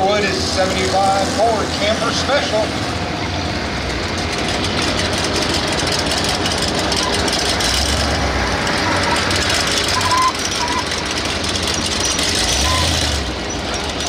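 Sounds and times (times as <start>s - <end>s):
truck engine low rumble: 0.0s - 14.0s.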